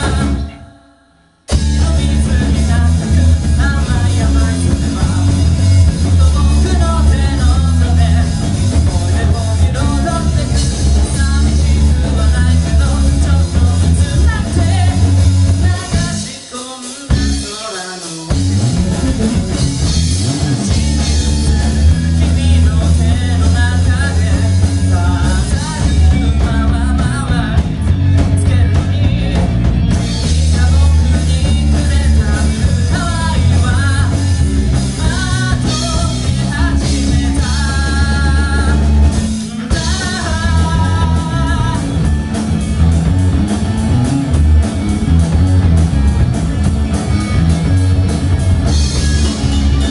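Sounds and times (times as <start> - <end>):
drum kit: 0.0 - 0.8, 1.5 - 49.9
person singing: 0.0 - 19.4, 20.2 - 42.2
bass guitar: 0.0 - 49.9
electric guitar: 0.0 - 49.9.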